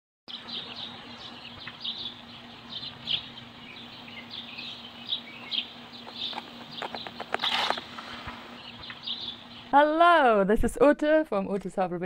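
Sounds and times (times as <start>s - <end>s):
small birds chirping: 0.3s - 10.1s.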